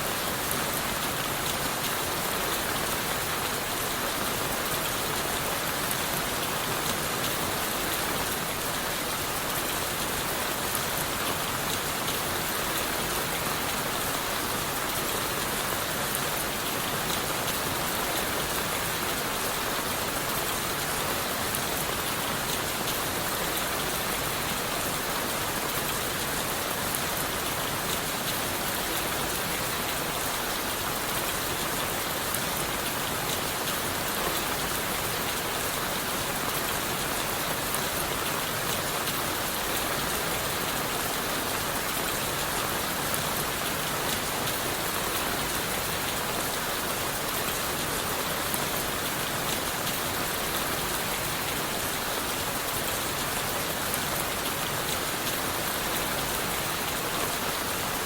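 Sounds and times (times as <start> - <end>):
rain on leaves and wood: 0.0 - 58.0.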